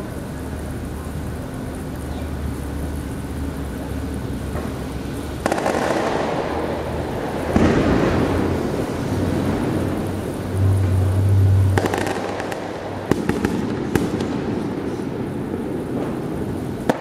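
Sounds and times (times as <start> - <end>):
low hum: 0.0 - 16.9
fireworks bangs with crackling echo: 0.0 - 17.0.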